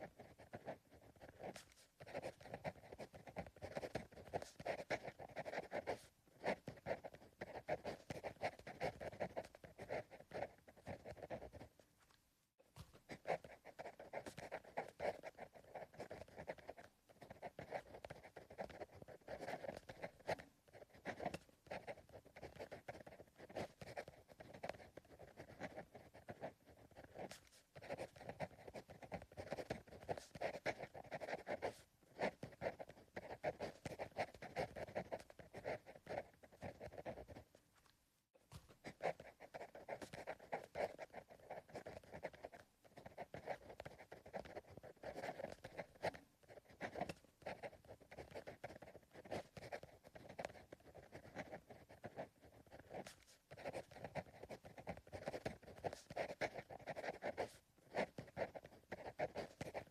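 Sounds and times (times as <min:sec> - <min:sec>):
pencil scratching on paper: 0:00.0 - 0:59.9.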